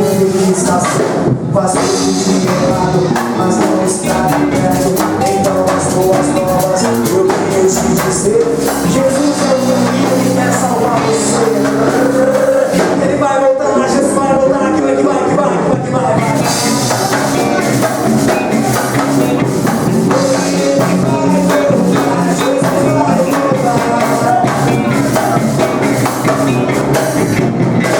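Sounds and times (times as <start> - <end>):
drums: 0.0 - 27.9
gospel band playing: 0.0 - 27.9.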